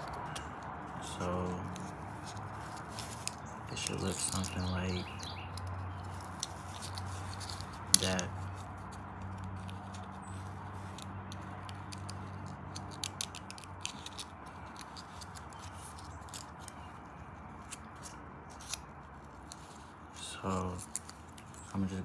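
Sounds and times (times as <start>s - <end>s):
paper crinkling and creasing: 0.0s - 22.0s.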